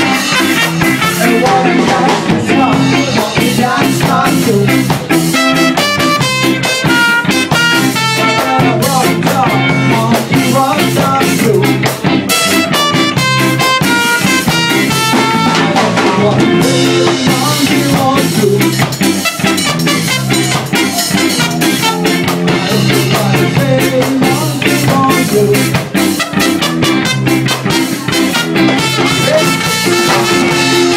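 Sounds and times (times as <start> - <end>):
live ska band playing: 0.0 - 30.9.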